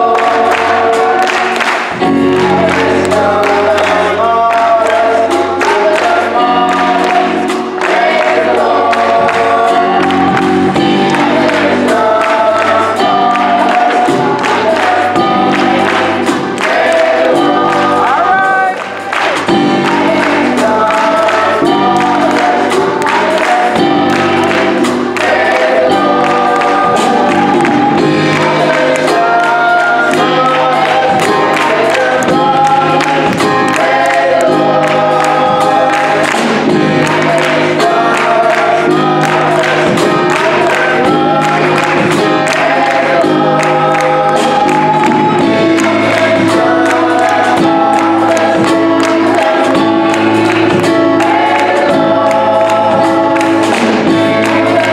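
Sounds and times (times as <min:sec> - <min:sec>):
drum kit steady beat: 0:00.0 - 0:54.9
gospel choir singing in harmony: 0:00.0 - 0:54.9.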